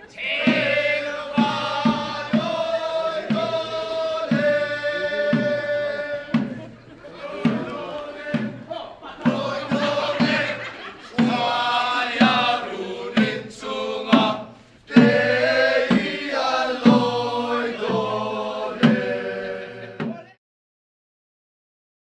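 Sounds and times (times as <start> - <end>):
group of voices singing: 0.0 - 20.4
strong beat: 0.2 - 20.4.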